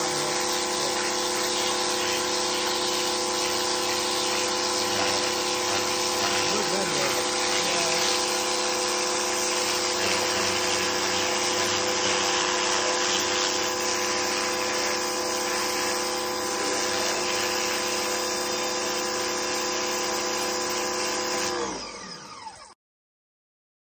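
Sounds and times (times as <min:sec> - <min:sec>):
spray jet hissing on pavement: 0:00.0 - 0:21.5
pressure washer motor humming: 0:00.0 - 0:22.8.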